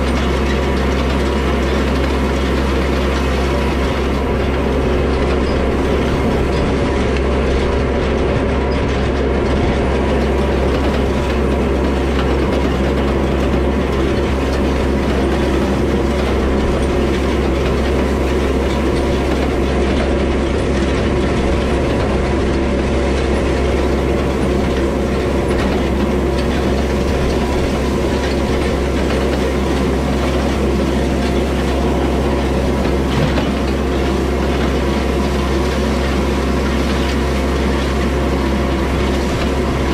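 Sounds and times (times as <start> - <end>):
diesel tractor running: 0.0 - 39.9
hay rake clattering: 0.0 - 39.9.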